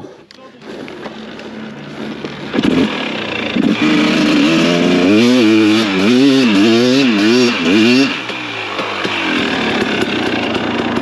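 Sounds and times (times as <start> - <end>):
motorcycle engine revving: 0.6 - 11.0.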